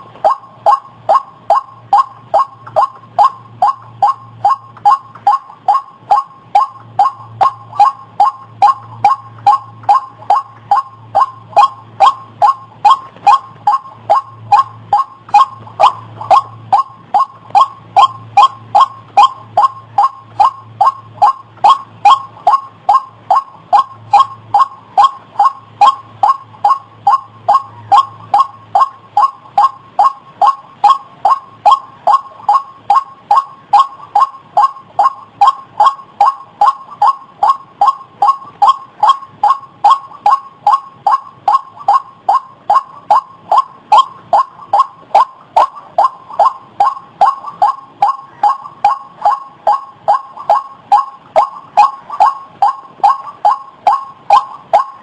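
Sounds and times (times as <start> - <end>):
bird calling harsh notes: 0.0 - 55.0.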